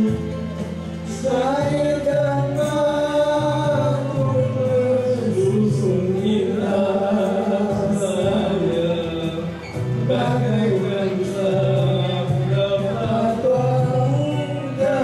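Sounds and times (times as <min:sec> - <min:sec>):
backing music: 0:00.0 - 0:15.0
man and woman singing: 0:01.1 - 0:15.0.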